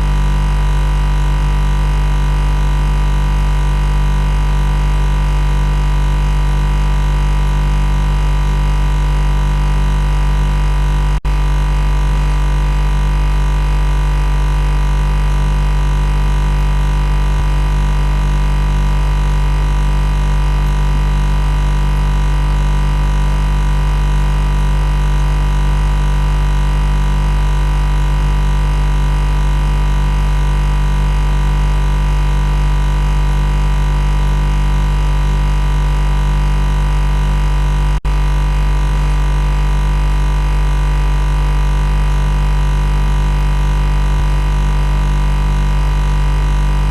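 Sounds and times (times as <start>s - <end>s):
loud machine buzz: 0.0s - 46.9s.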